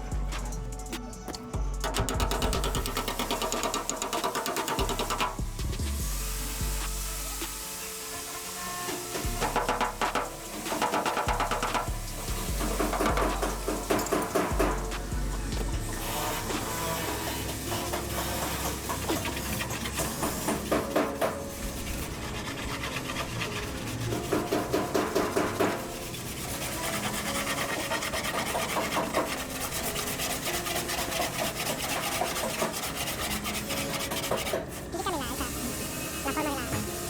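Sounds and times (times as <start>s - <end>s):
sanding car bodywork by hand: 2.7s - 37.0s.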